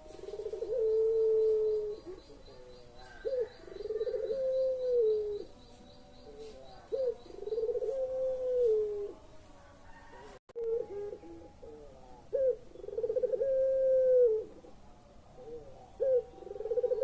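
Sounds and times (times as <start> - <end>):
dove cooing: 0.0 - 9.2, 9.8 - 17.0.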